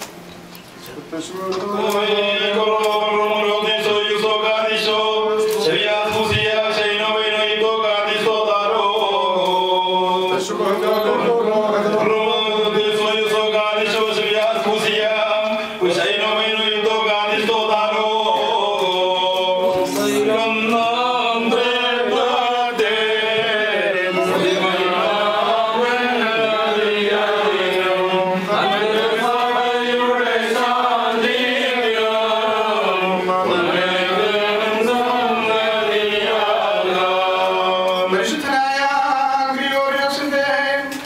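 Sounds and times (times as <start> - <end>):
men chanting a hymn: 1.2 - 41.0.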